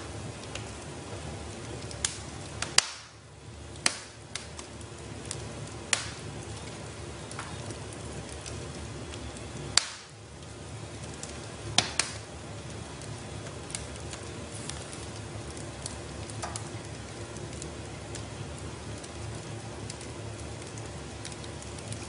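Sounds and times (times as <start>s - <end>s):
burning logs popping: 0.0s - 22.0s
wood fire hissing and crackling: 0.0s - 22.0s.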